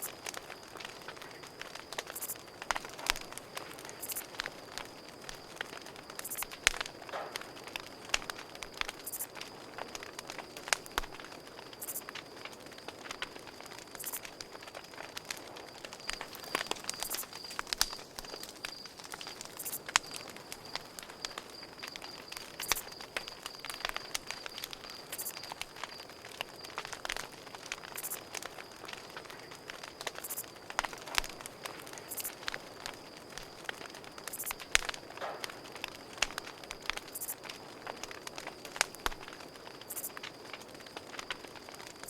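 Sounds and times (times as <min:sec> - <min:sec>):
campfire crackling and popping: 0:00.0 - 0:42.0
crickets trilling: 0:00.0 - 0:42.0.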